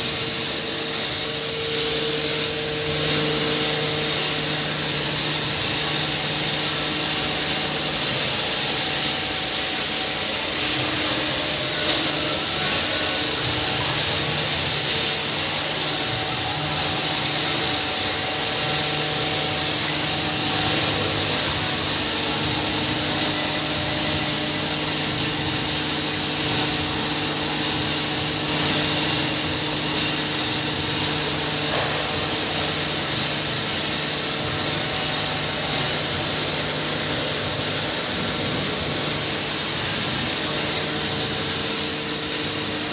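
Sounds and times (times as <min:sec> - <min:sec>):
hammer mill droning: 0:00.0 - 0:42.9.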